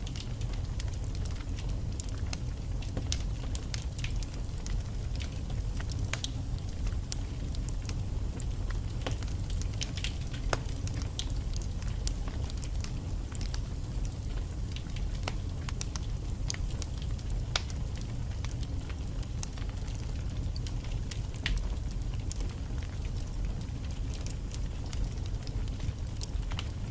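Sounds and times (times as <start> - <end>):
fire rumbling in fireplace: 0.0 - 26.9
logs crackling and popping: 0.0 - 26.9.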